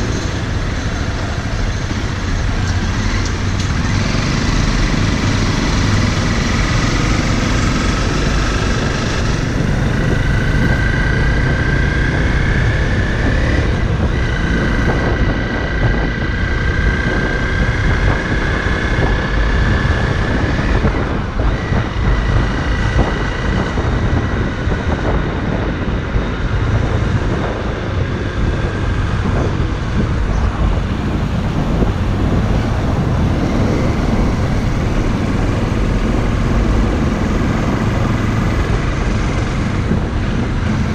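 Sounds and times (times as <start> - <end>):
motorcycle engine running: 0.0 - 40.9
wind over microphone: 0.0 - 40.9.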